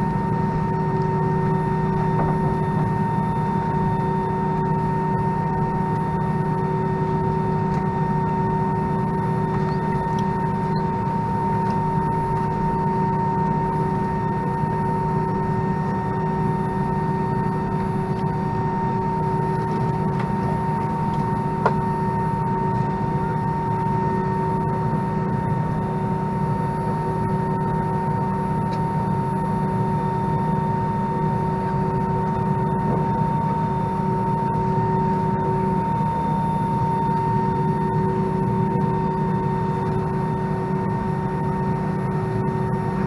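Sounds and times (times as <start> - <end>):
aircraft cabin hum: 0.0 - 24.8, 28.6 - 43.0.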